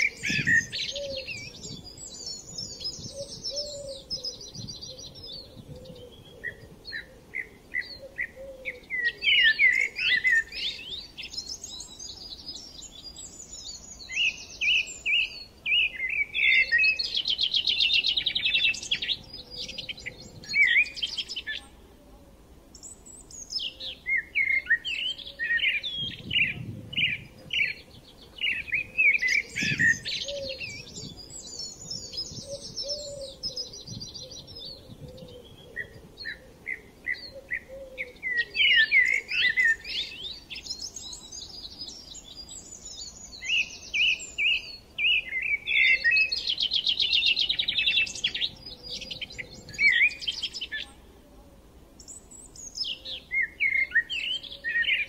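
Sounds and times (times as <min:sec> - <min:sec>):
small birds chirping and trilling: 0:00.0 - 0:21.9, 0:22.7 - 0:51.2, 0:51.9 - 0:55.0.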